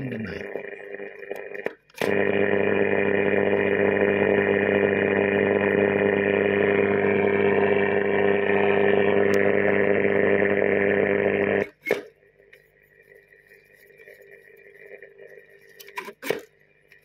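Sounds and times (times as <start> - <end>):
radio static with hum: 0.0 - 11.8, 13.0 - 16.4.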